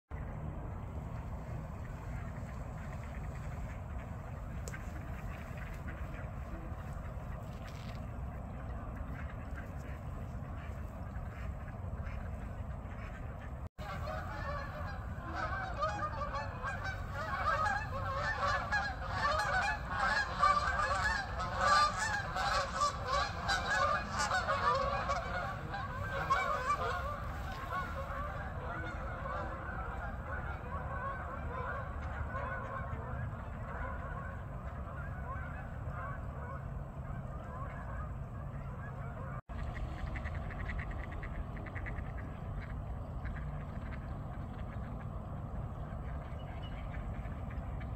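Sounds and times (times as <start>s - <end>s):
steady low rumble: 0.1s - 47.9s
geese honking: 0.5s - 47.9s.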